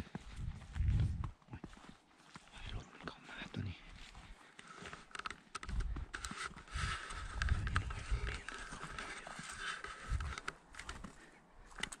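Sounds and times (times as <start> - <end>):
footsteps crunching through snow: 0.0 - 12.0.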